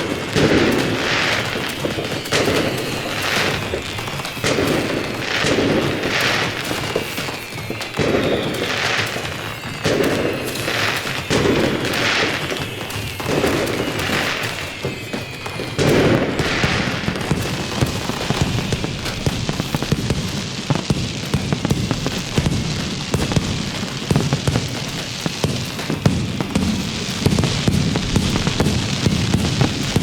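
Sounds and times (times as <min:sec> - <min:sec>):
faint whistling: 0:00.0 - 0:30.0
firecracker pops crackling: 0:00.0 - 0:30.0
fireworks bursts: 0:00.0 - 0:30.0.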